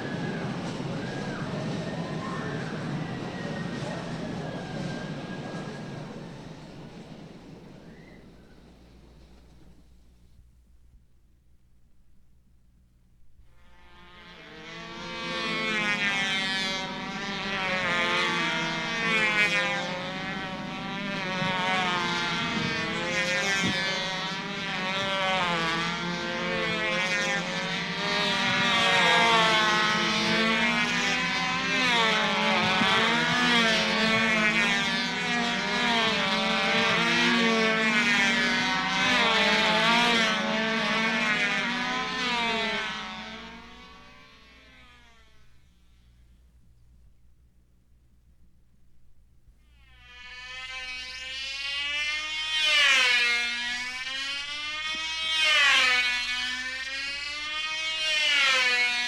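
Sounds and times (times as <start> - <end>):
model airplane engine buzzing: 0.0 - 59.0.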